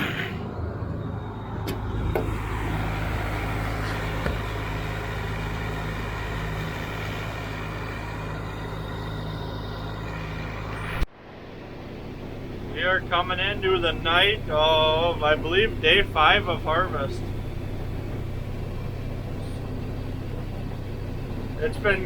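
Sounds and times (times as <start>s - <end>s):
large diesel engine running: 0.0s - 22.0s.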